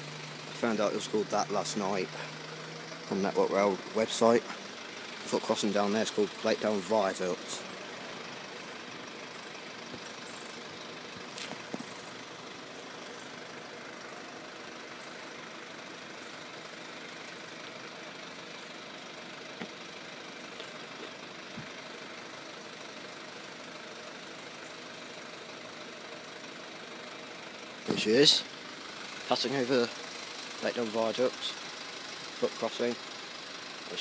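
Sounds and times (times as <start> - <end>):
vehicles idling: 0.0 - 34.0.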